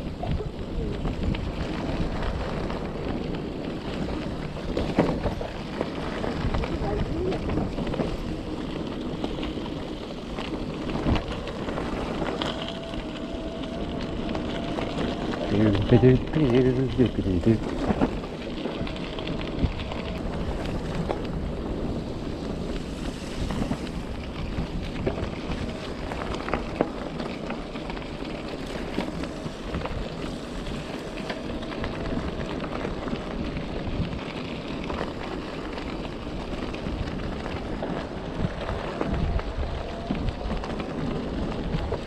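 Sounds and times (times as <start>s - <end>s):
tyre rumble on rough track: 0.0s - 42.0s
wind buffeting microphone: 0.0s - 42.0s.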